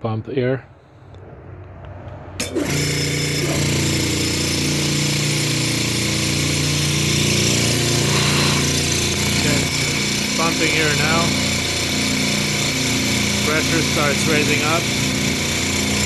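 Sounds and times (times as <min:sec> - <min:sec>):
air compressor running: 0:02.4 - 0:16.0.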